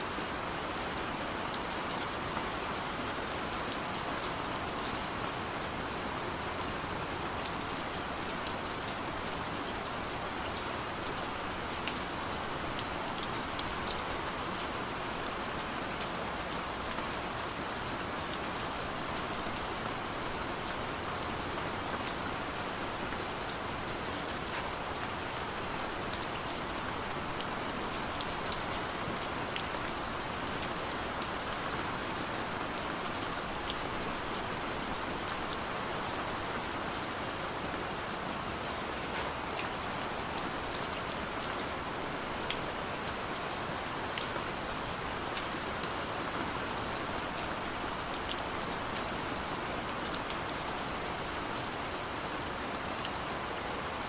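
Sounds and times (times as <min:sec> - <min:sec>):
gentle rain hissing: 0:00.0 - 0:54.0
raindrops ticking on a surface: 0:00.4 - 0:54.0.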